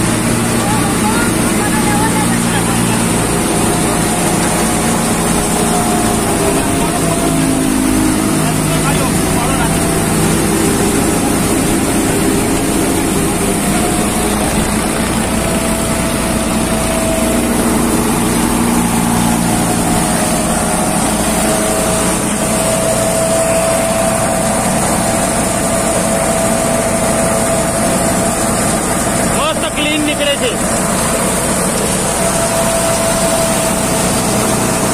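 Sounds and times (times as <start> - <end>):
thresher machine drone: 0.0 - 34.9.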